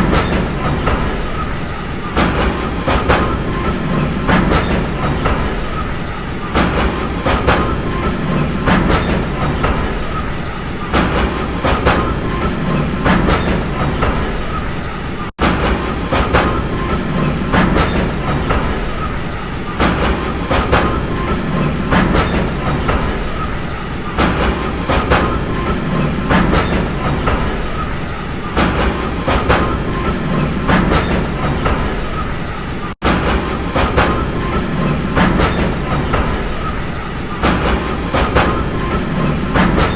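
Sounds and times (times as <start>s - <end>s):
train rumble: 0.0s - 39.9s
wheels clacking over rail joints: 0.0s - 39.9s.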